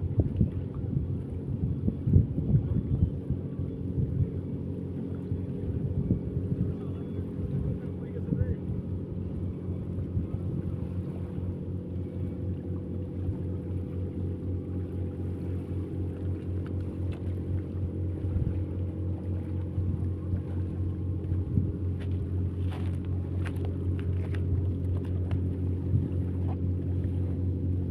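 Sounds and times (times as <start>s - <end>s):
engine running with low hum: 0.0s - 27.9s.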